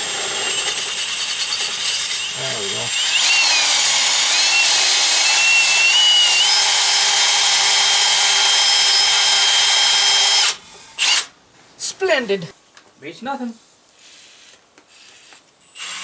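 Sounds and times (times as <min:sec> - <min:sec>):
electric drill whining: 0:00.0 - 0:11.3, 0:14.4 - 0:16.0.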